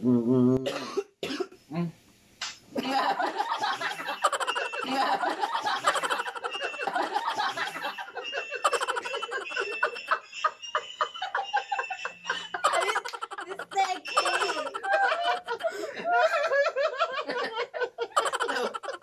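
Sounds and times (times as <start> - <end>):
people laughing: 2.8 - 19.0.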